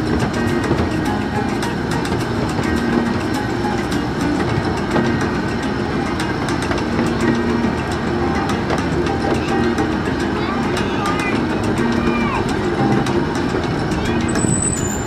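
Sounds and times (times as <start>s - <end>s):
miniature train rumbling: 0.0s - 15.0s
wheels clicking on rails: 0.0s - 15.0s.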